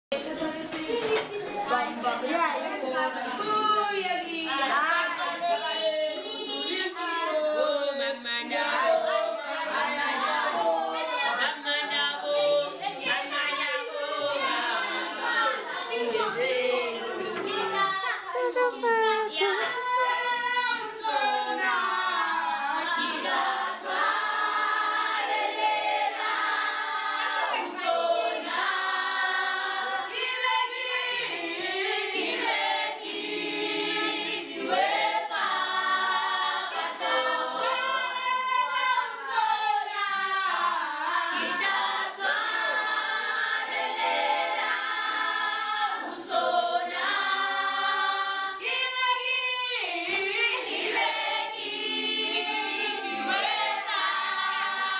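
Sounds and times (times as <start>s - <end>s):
students singing as a group: 0.1s - 54.9s.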